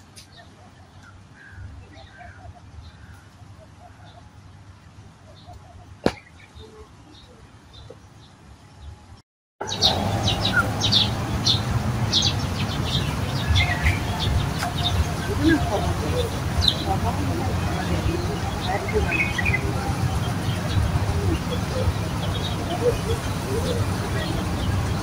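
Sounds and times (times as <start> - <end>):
small birds chirping: 0.0 - 9.0, 9.6 - 25.0
low background noise: 0.0 - 25.0.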